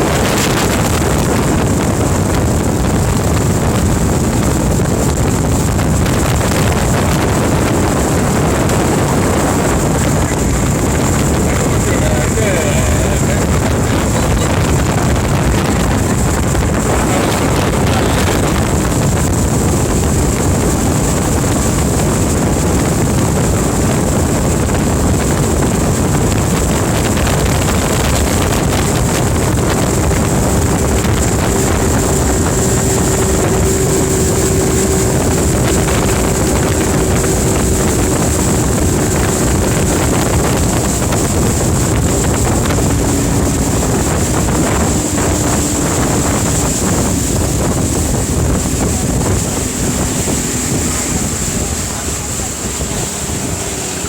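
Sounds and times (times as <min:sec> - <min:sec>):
motorboat engine running: 0:00.0 - 0:54.0
wind buffeting microphone: 0:00.0 - 0:54.0.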